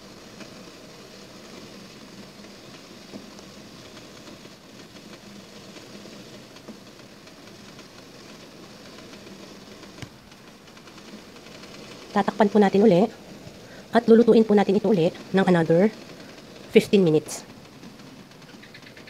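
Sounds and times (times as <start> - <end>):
steamer boiling hiss and hum: 0.0 - 19.0.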